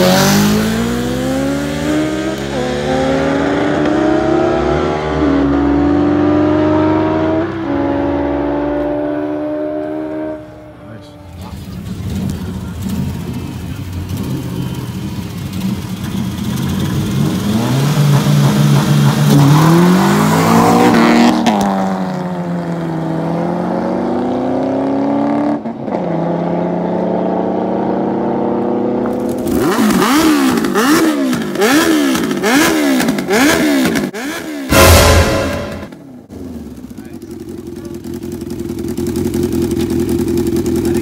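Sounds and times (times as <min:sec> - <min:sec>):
motorcycle engine revving: 0:00.0 - 0:25.6, 0:29.3 - 0:41.0
car engines accelerating: 0:00.0 - 0:37.6.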